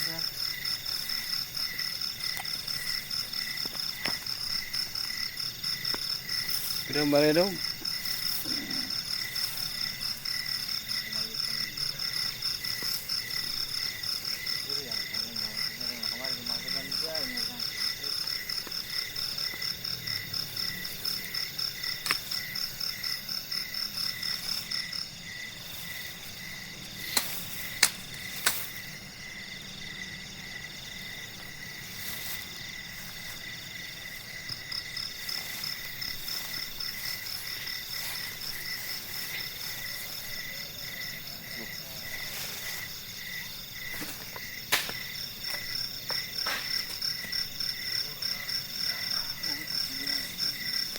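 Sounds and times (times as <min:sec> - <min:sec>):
insect high pulsing chirr: 0:00.0 - 0:50.9.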